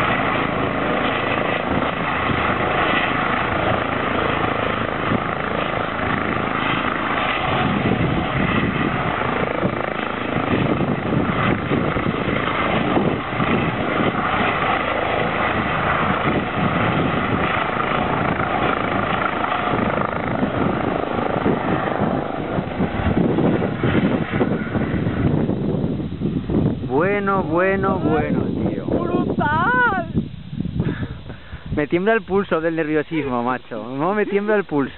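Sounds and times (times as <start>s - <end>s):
helicopter turbines and rotor: 0.0s - 34.9s.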